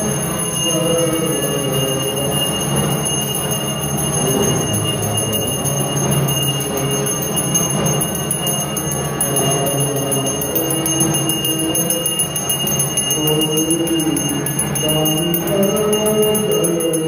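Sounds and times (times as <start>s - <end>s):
high ringing tones: 0.0s - 17.0s.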